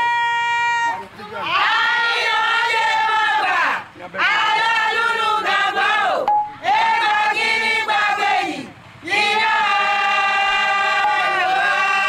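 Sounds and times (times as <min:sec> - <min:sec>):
women singing a chant: 0:01.4 - 0:12.0.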